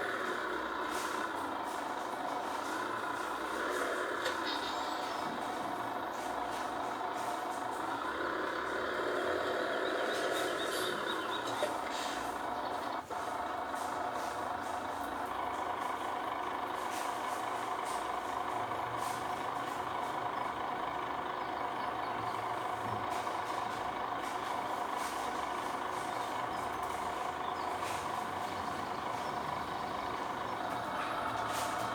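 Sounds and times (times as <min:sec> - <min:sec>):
heavy engine droning: 0:00.0 - 0:31.9.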